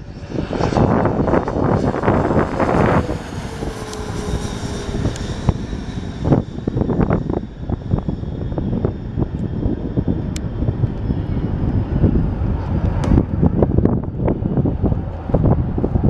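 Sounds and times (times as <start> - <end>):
jet engines rumbling overhead: 0.0 - 16.0
wind gusts on microphone: 0.0 - 16.0.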